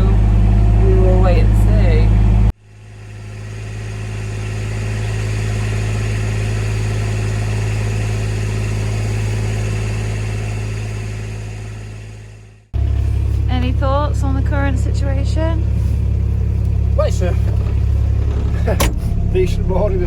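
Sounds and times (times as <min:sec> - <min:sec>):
vehicle engine running steadily: 0:00.0 - 0:20.0.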